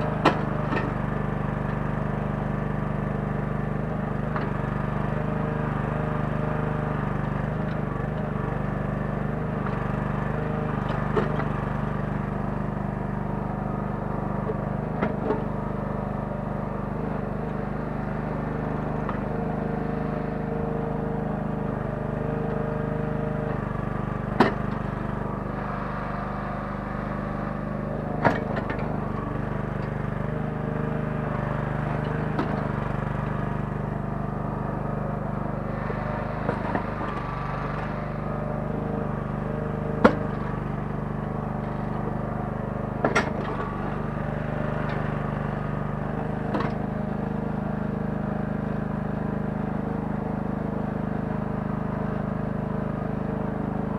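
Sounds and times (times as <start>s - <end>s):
small engine running: 0.0s - 53.9s.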